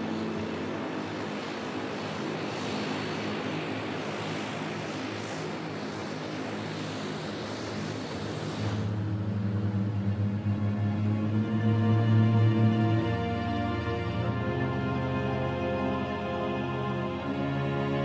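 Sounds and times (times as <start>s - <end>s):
low steady hum: 0.0s - 18.0s
propeller airplane engines running: 0.0s - 18.0s.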